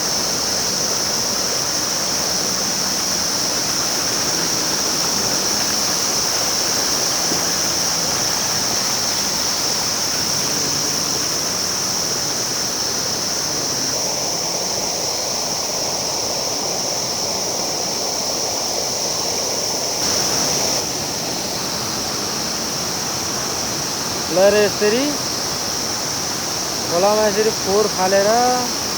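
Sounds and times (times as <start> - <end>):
high-pitched hiss: 0.0 - 28.9
river water rushing over rocks: 0.0 - 28.9.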